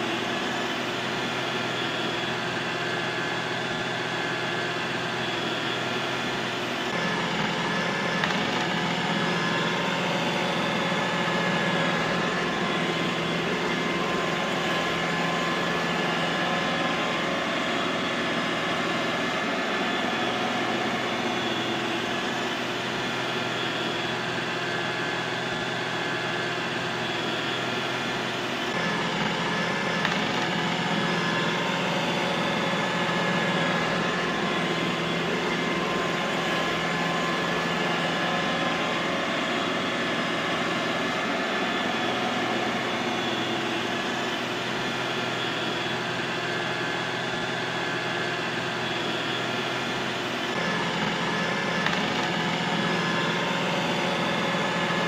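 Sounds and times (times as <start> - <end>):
robot vacuum cleaner whirring: 0.0 - 55.0.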